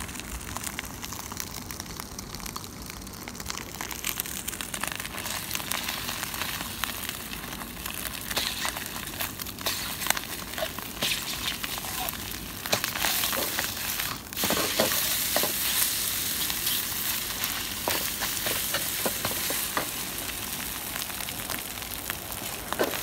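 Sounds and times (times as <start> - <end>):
egg sizzling in a wok: 0.0 - 23.0.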